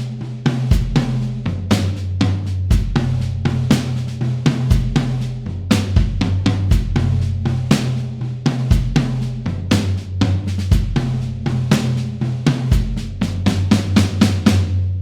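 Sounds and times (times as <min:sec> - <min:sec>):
rock drum beat: 0:00.0 - 0:14.8
bass line: 0:00.0 - 0:15.0.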